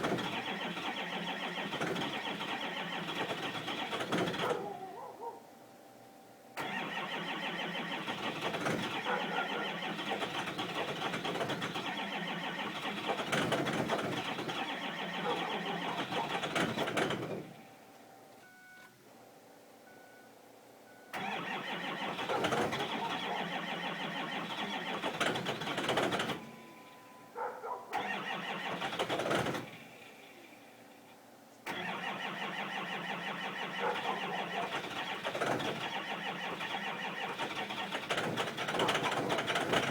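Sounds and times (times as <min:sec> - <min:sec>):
diesel engine cranking on starter: 0:00.0 - 0:05.1, 0:06.5 - 0:17.8, 0:21.1 - 0:39.9.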